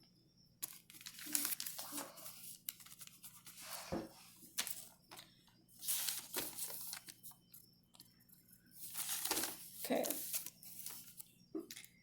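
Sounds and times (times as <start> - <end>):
paper rustling: 0.6 - 8.1, 8.7 - 11.9.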